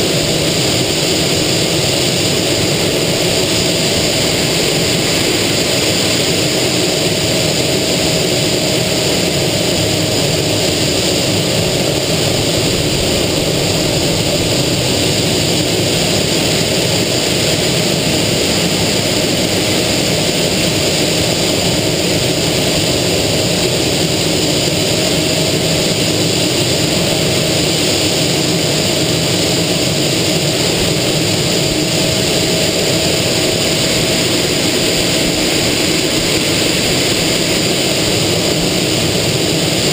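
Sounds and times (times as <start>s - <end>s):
jet engine roar and whine: 0.0s - 39.9s
rushing airflow: 0.0s - 39.9s.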